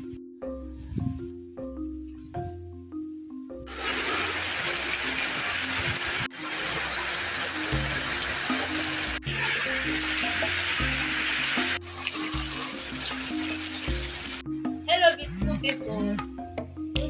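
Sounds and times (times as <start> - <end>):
soft music with mallet notes: 0.0 - 17.0.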